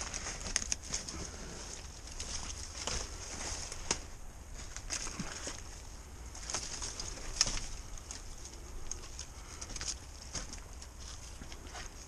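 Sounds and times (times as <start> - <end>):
dry leaves crackling: 0.0 - 12.0.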